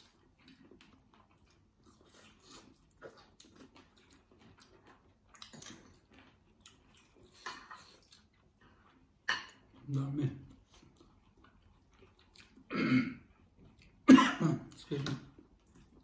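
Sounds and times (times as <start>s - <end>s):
people chewing: 0.0s - 16.0s.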